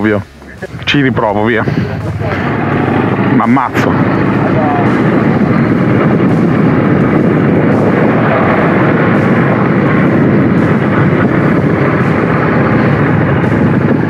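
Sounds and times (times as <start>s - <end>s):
motorcycle engine running: 0.0s - 14.0s
rush of riding noise: 0.0s - 14.0s.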